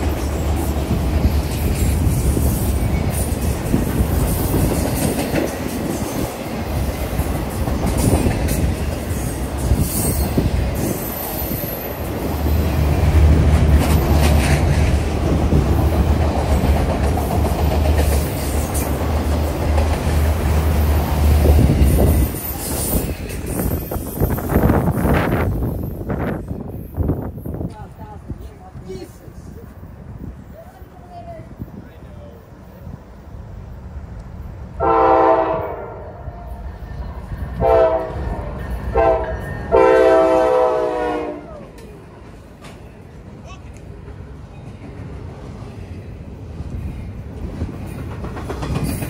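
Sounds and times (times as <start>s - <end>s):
steel wheels rumbling on rail: 0.0s - 49.0s.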